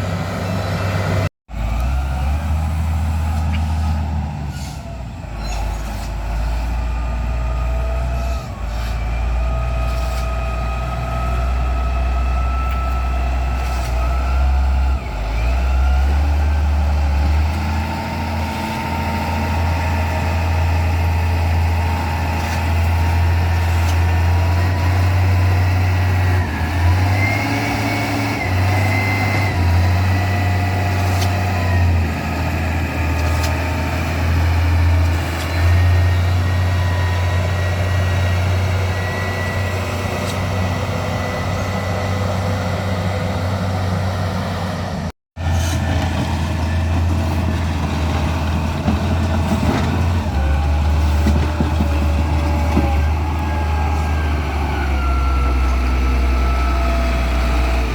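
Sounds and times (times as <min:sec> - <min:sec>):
diesel engine running: 0:00.0 - 0:57.9
engine whine: 0:00.0 - 0:57.9.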